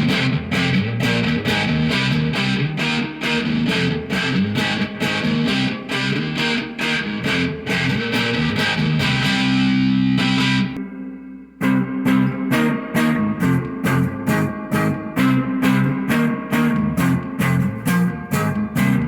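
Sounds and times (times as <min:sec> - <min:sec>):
distorted electric guitar strumming: 0:00.0 - 0:19.0.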